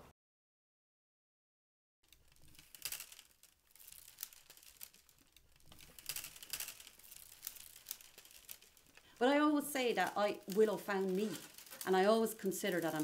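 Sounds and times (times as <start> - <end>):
willow rods creaking and crackling: 2.0 - 13.0.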